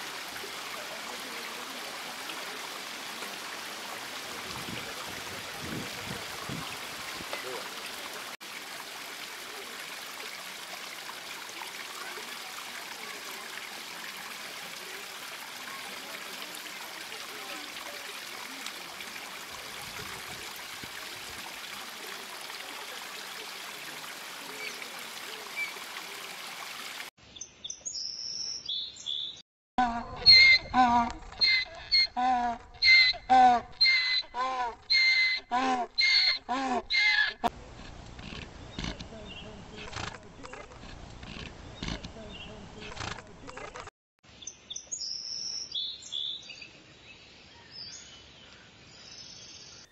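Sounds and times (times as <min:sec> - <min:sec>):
trickling water: 0:00.0 - 0:27.1, 0:30.2 - 0:43.9.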